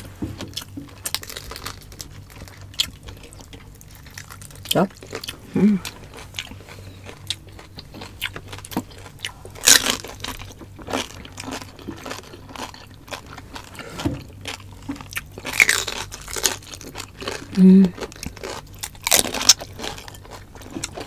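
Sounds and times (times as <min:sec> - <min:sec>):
people chewing: 0:00.0 - 0:21.0
crunching crackling skin: 0:00.4 - 0:21.0.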